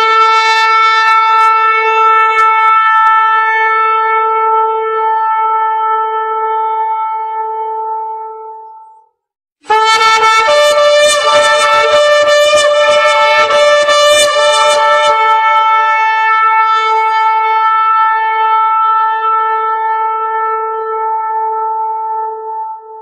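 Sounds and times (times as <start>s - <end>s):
blaring horn blasts: 0.0s - 23.0s.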